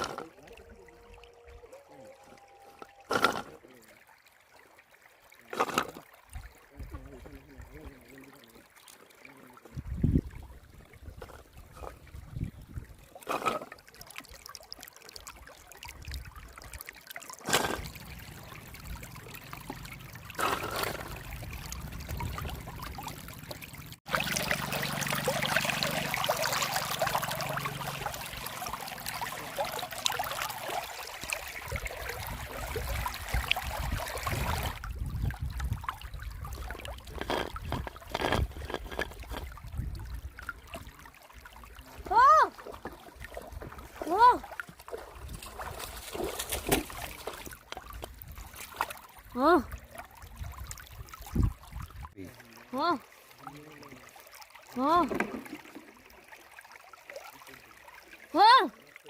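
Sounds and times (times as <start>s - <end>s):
river water running: 0.0s - 59.0s
water splashing and rushing: 0.0s - 59.0s.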